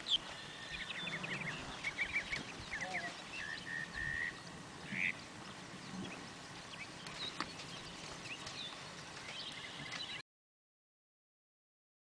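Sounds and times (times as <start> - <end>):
horse hooves on soft dirt: 0.0 - 10.2
small birds chirping: 0.0 - 10.2.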